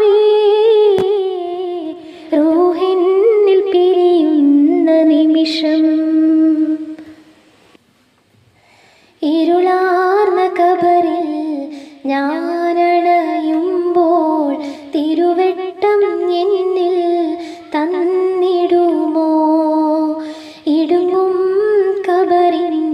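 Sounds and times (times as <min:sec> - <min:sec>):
woman singing unaccompanied: 0:00.0 - 0:07.2, 0:09.2 - 0:22.9.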